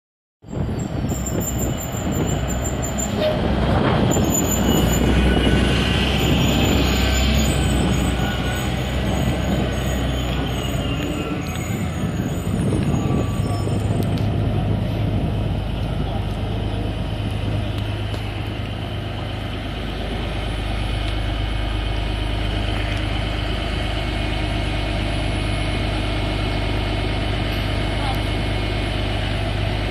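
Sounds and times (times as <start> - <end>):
bus engine low hum: 0.4 - 29.9.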